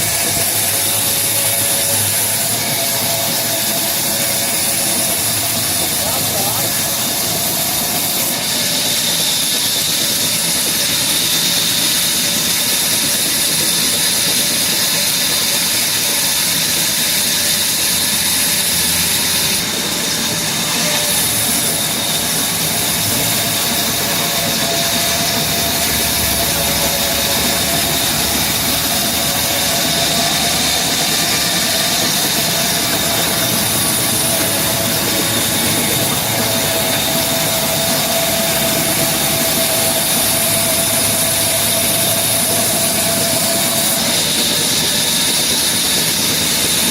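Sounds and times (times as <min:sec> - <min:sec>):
wood-cutting saw running: 0:00.0 - 0:46.9.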